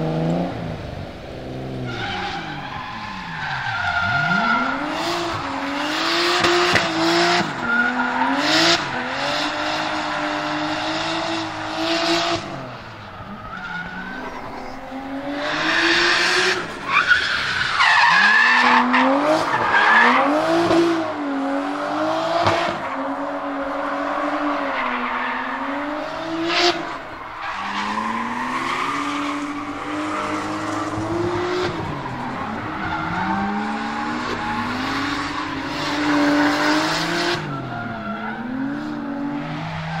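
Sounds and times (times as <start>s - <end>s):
turbocharged car engine revving: 0.0s - 40.0s.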